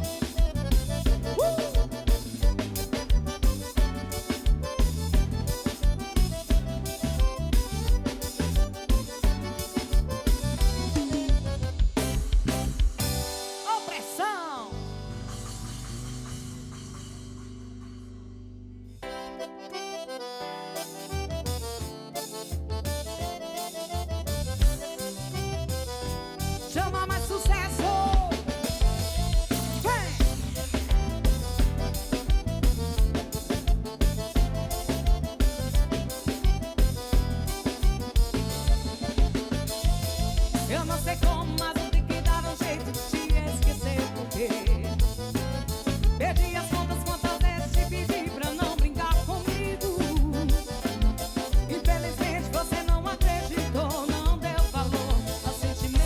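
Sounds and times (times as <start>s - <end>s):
bass: 0.0s - 13.7s, 14.6s - 56.0s
live band playing pop song: 0.0s - 18.1s, 19.0s - 56.0s
drum kit beat: 0.0s - 56.0s
keyboard: 0.0s - 56.0s.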